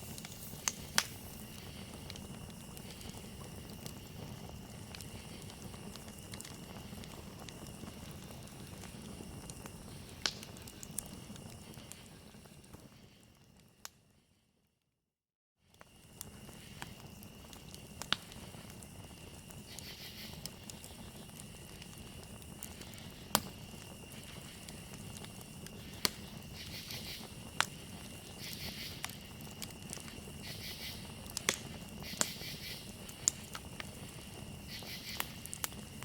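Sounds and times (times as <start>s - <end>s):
crickets trilling: 0.0s - 13.8s, 15.7s - 36.0s
campfire crackling: 0.0s - 14.3s, 15.7s - 36.0s.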